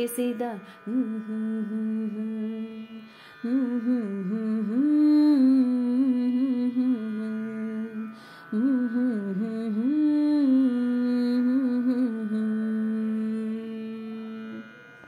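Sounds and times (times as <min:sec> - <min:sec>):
person humming a melody: 0:00.0 - 0:14.8.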